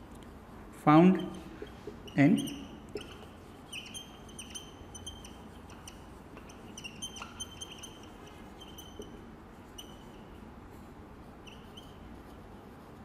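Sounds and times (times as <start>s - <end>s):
marker squeaking on a whiteboard: 1.0s - 10.5s, 11.2s - 13.0s.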